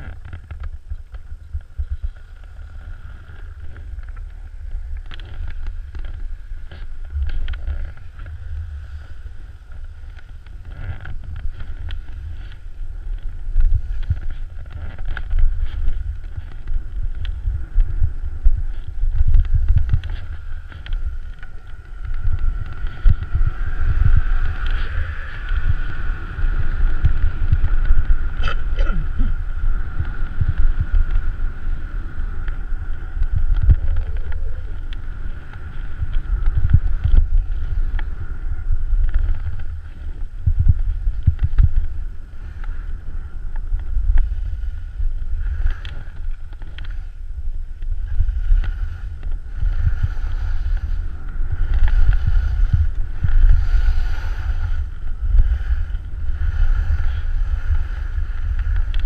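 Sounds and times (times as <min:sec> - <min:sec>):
skis scraping on snow: 0:00.0 - 0:59.0
wind buffeting microphone: 0:00.0 - 0:59.0.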